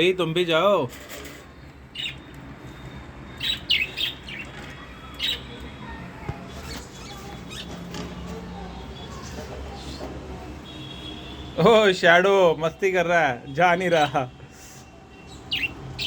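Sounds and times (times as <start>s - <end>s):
small birds chirping: 1.4s - 12.0s, 13.4s - 16.0s.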